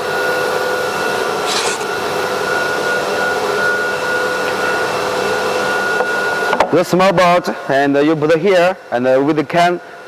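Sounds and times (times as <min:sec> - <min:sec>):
vacuum pump running: 0:00.0 - 0:10.0.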